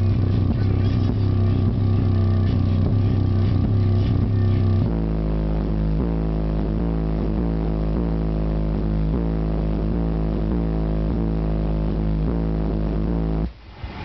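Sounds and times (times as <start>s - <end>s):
bass-heavy music through car speakers: 0.0s - 14.0s.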